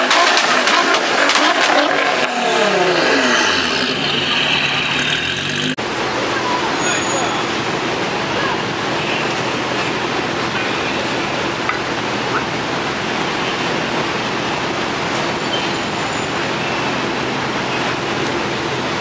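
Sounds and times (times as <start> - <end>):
traffic: 0.0 - 19.0.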